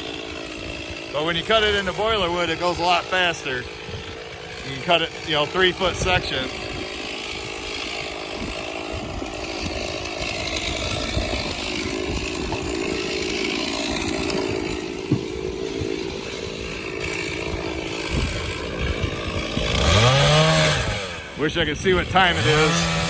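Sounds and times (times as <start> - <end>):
chainsaw cutting logs: 0.0 - 23.0.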